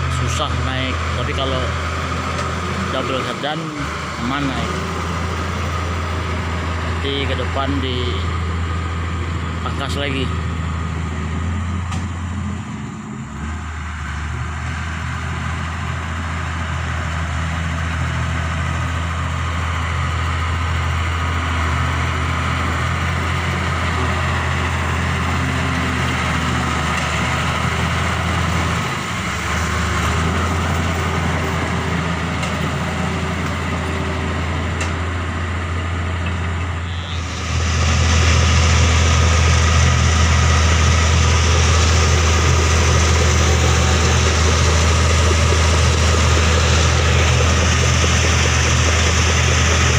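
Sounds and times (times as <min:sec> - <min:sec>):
bulldozer diesel engine droning: 0:00.0 - 0:49.9.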